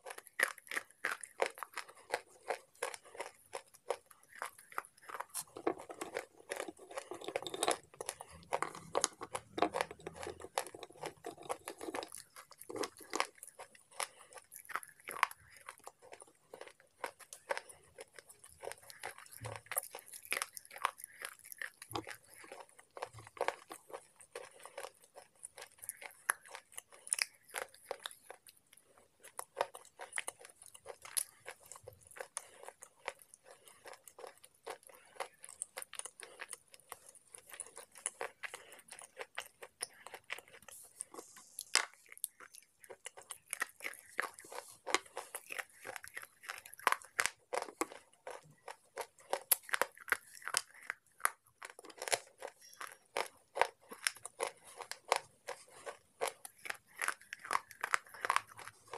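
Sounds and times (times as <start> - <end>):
chewing with dry crunches: 0.0 - 58.9.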